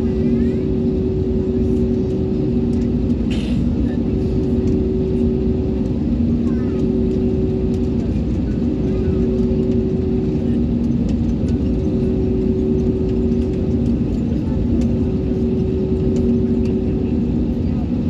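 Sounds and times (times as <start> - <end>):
airliner engine rumble in cabin: 0.0 - 18.0.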